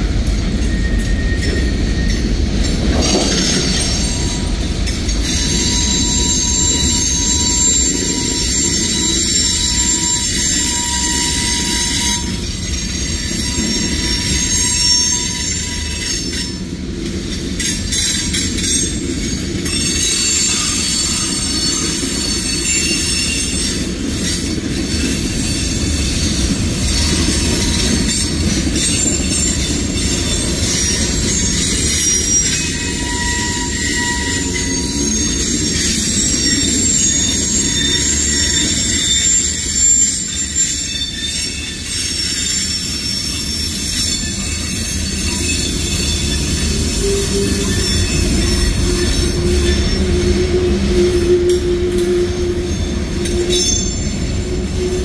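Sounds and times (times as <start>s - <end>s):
freight cars rumbling on rails: 0.0s - 55.0s
high-pitched wheel squeal: 5.2s - 16.6s, 19.7s - 55.0s.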